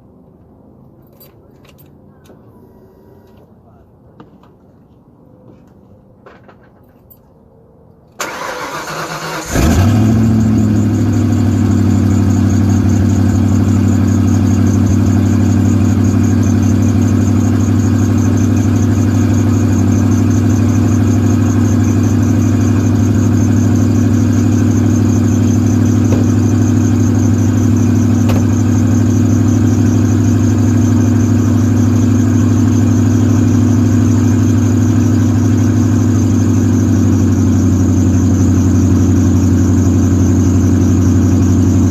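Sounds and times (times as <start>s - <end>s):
car engine cranking and idling: 8.2s - 41.9s.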